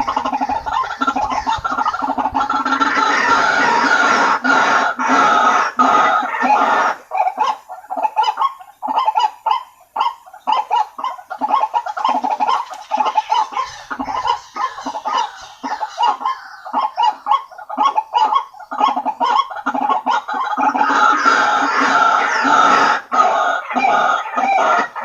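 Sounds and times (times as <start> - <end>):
waterhens calling: 0.0 - 25.0.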